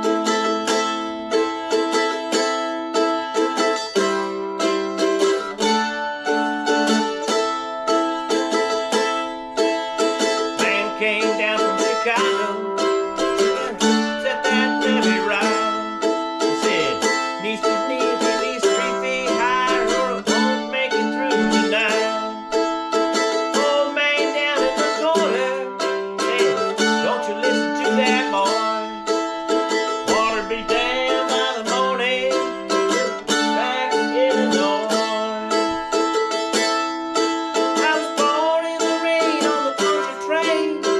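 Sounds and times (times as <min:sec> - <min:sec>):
mandolin played with a pick: 0:00.0 - 0:40.9.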